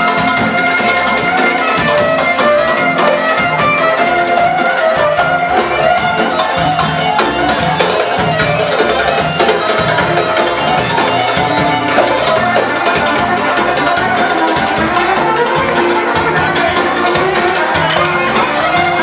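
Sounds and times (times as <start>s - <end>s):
loud dance music: 0.0s - 19.0s.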